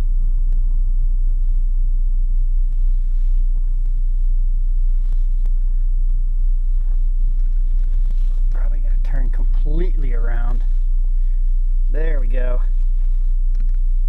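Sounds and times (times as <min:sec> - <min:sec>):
subwoofer deep bass note: 0:00.0 - 0:14.0.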